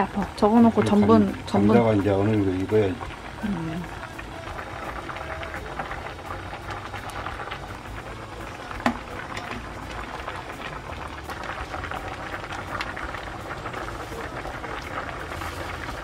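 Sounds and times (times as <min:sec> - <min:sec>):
stew bubbling and popping: 0:00.0 - 0:16.0.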